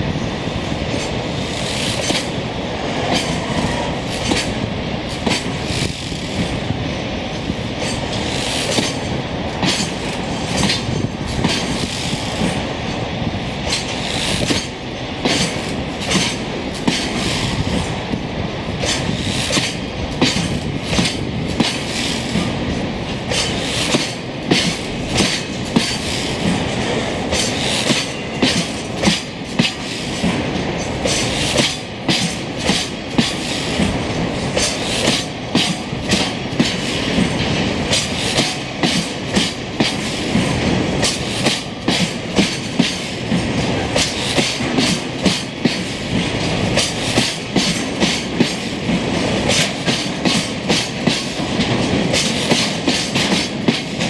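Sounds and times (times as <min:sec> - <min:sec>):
train wheels rumbling on rails: 0:00.0 - 0:54.0
wheels clicking over rail joints: 0:00.9 - 0:02.4, 0:07.8 - 0:12.6, 0:13.6 - 0:18.0, 0:18.8 - 0:54.0.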